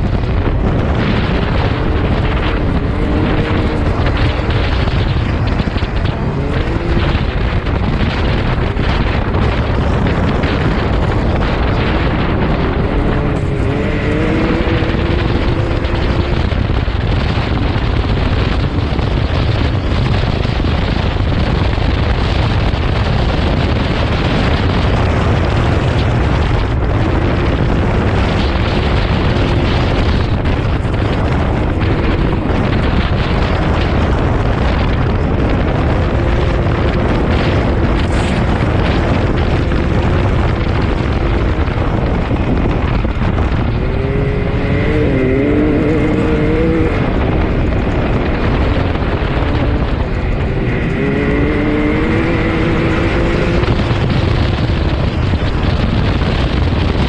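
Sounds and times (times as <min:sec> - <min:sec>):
vehicle engine revving: 0:00.0 - 0:57.0
wind buffeting microphone: 0:00.0 - 0:57.0.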